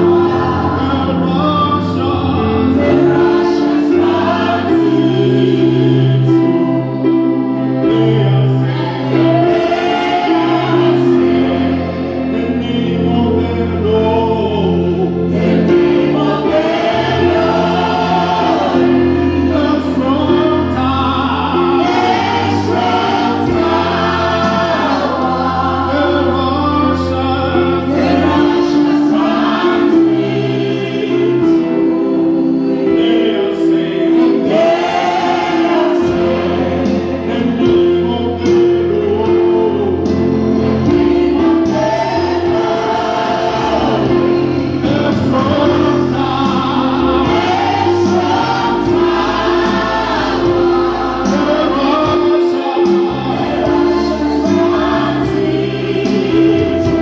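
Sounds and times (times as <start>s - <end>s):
group singing gospel: 0.0s - 57.0s
low held accompaniment notes: 0.0s - 57.0s.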